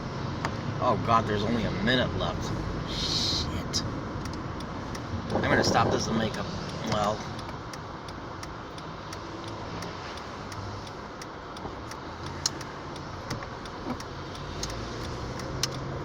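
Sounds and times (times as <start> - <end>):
car cabin road noise: 0.0 - 16.0
turn signal ticking: 0.0 - 16.0.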